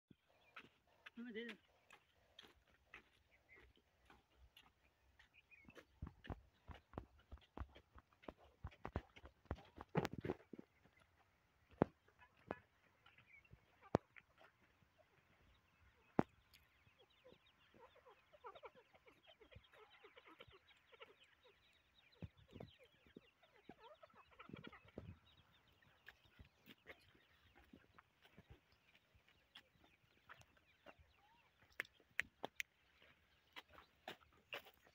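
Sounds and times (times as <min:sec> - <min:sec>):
chicks peeping: 0:00.5 - 0:34.9.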